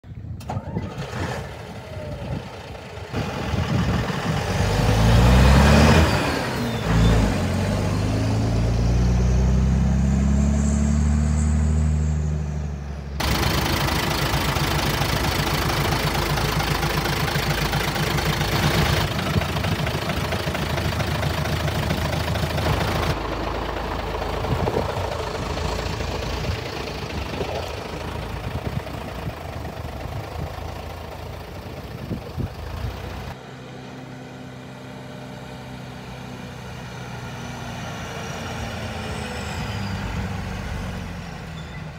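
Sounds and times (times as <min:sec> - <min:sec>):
truck diesel engine revving and idling: 0:00.6 - 0:41.9.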